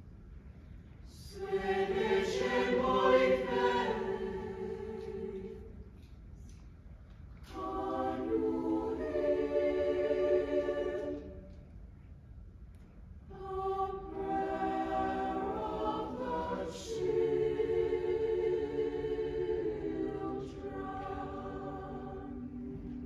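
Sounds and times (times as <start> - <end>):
mixed choir singing chords: 1.1 - 5.8, 7.4 - 11.6, 13.3 - 23.0.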